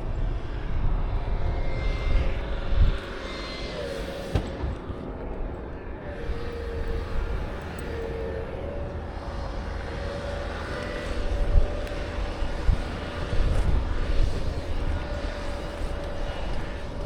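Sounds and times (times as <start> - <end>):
faint engine-like hum: 0.0 - 17.0
wind buffeting microphone: 0.0 - 17.0.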